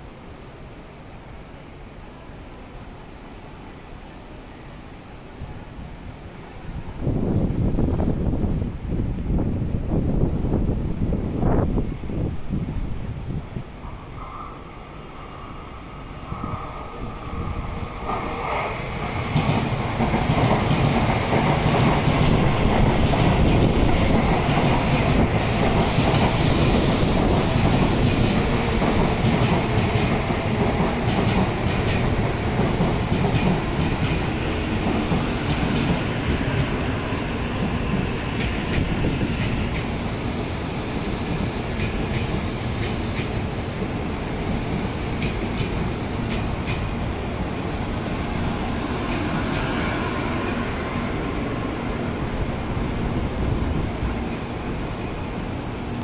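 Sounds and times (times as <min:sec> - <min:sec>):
train wheels rumbling on rail: 0:05.2 - 0:56.0.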